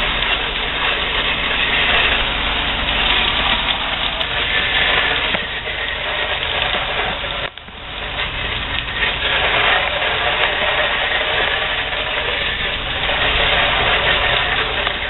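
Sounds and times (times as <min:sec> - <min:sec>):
hiss of water spray: 0:00.0 - 0:15.0
pressure washer engine rumbling: 0:00.0 - 0:15.0.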